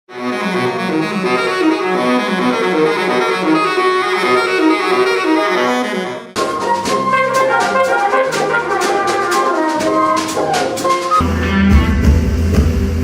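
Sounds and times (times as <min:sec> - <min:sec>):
instrumental music led by horns: 0:00.1 - 0:13.0.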